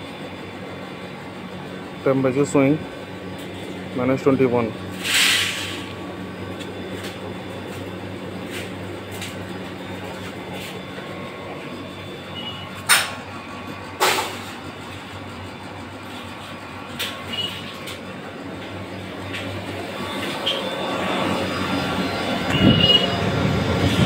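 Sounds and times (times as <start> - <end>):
compressor humming: 0.0 - 24.0.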